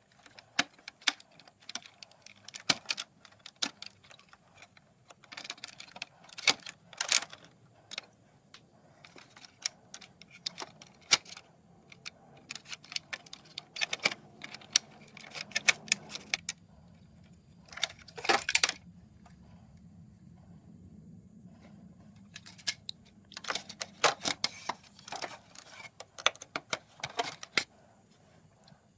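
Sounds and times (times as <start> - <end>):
parts clattering: 0.0 - 18.8, 21.6 - 28.7
small metal and plastic parts clinking: 0.0 - 18.8, 22.2 - 27.7.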